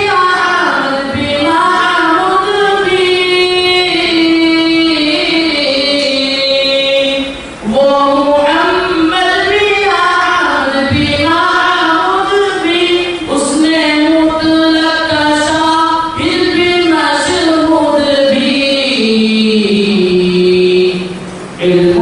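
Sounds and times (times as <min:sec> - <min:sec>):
young male voices singing: 0:00.0 - 0:22.0.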